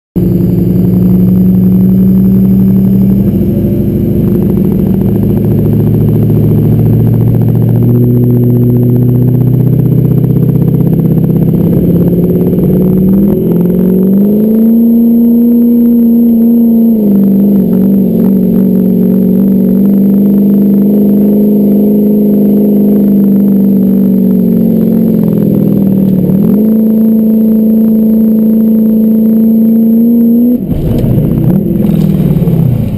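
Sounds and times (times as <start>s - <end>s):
vehicle engine revving high: 0.2s - 32.9s.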